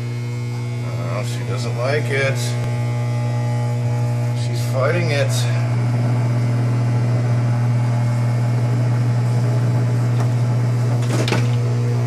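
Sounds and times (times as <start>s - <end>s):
transformer humming loudly: 0.0s - 12.0s.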